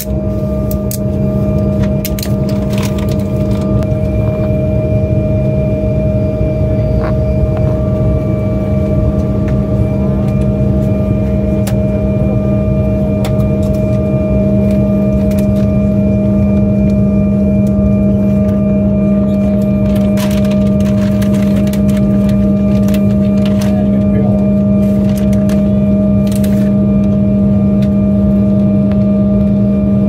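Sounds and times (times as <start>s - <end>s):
high steady whine: 0.0s - 30.0s
jet engines idling in cabin: 0.0s - 30.0s.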